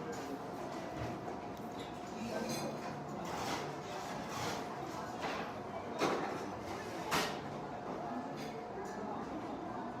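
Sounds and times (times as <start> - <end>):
murmur of chatter: 0.0 - 10.0.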